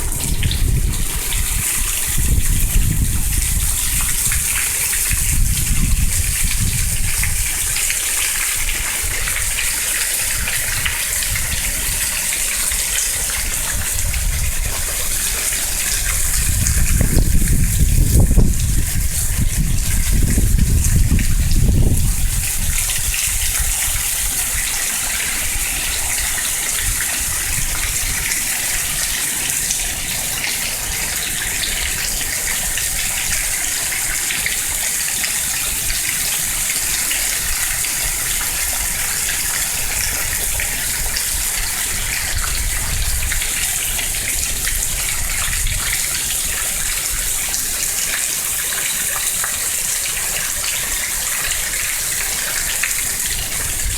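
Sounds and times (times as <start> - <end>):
wind rumble on microphone: 0.0 - 48.3, 49.1 - 53.9
heavy rain: 0.0 - 53.9.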